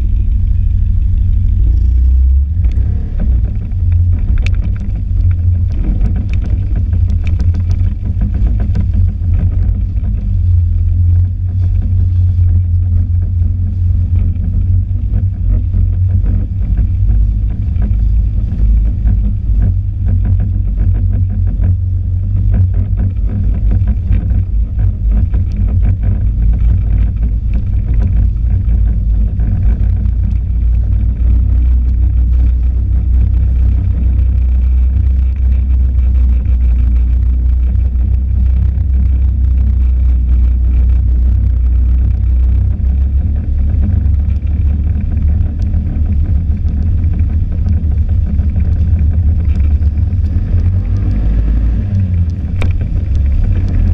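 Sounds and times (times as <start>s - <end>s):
snowmobile engine rumble: 0.0s - 53.9s.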